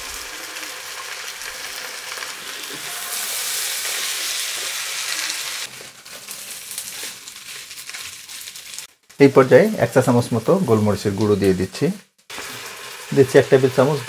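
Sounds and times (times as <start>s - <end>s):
stir-fry sizzling in hot oil: 0.0s - 14.0s.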